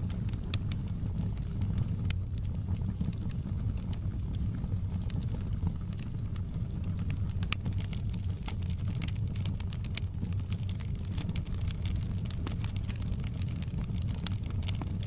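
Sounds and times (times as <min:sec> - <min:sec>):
fire crackles and pops: 0:00.0 - 0:15.0
fire flames rushing: 0:00.0 - 0:15.0.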